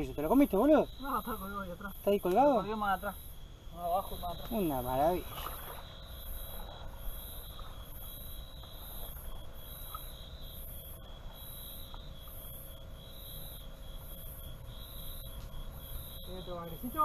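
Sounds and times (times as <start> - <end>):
insect pulsing chirp: 0.0 - 17.0
insect trill: 0.0 - 17.0.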